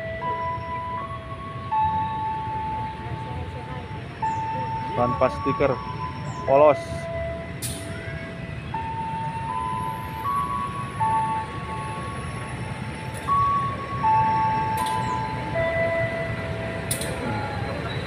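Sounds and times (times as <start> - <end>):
locomotive rumble: 0.0 - 18.0.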